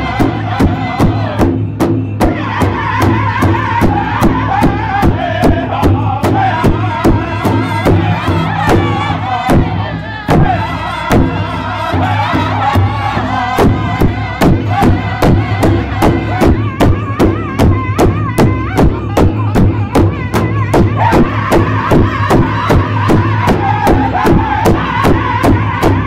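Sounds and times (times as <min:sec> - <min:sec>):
group singing in high voices: 0:00.0 - 0:26.0
large drum struck in unison: 0:00.0 - 0:26.0.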